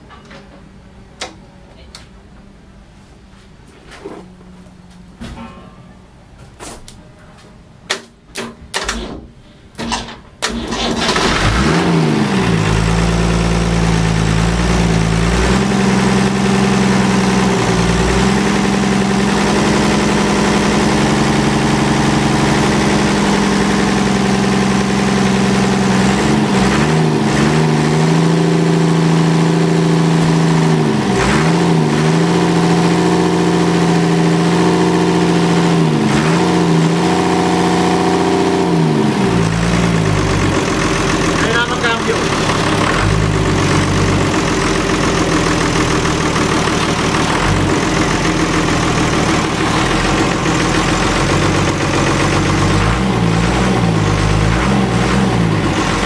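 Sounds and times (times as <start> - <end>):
diesel engine running: 9.8 - 56.0.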